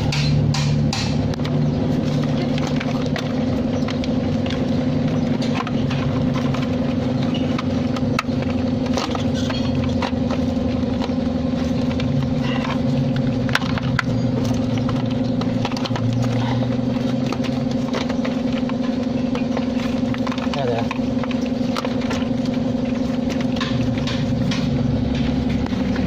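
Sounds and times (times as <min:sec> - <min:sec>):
van engine idling: 0:00.0 - 0:26.0.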